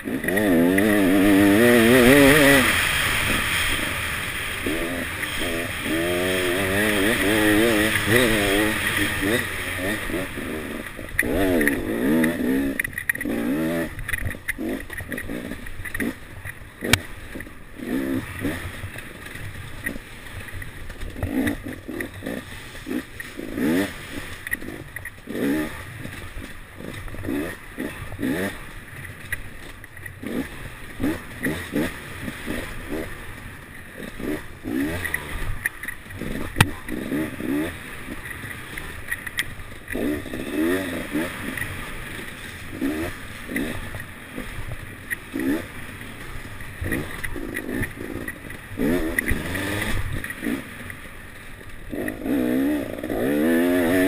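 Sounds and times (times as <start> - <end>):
motorcycle engine revving: 0.0 - 54.0
motorcycle knocking over bumps: 0.1 - 33.1, 33.9 - 54.0.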